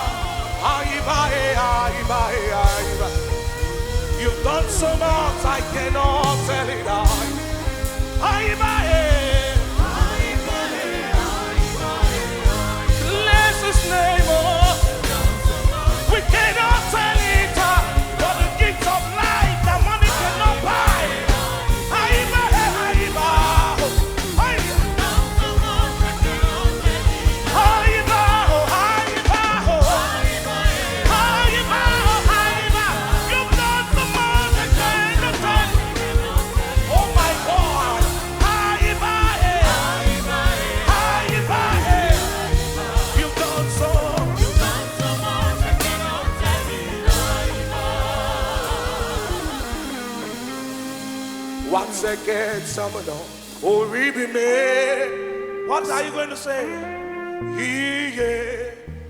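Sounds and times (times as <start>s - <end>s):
person singing: 0.0s - 50.8s, 51.6s - 59.0s
band with steady drum beat: 0.0s - 53.9s.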